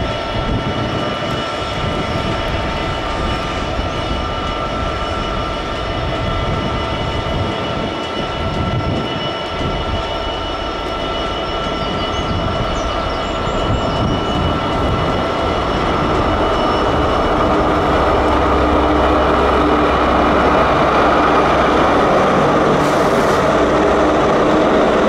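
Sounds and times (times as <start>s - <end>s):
locomotive engine rumble: 0.0s - 25.0s
steady whining tones: 0.0s - 25.0s.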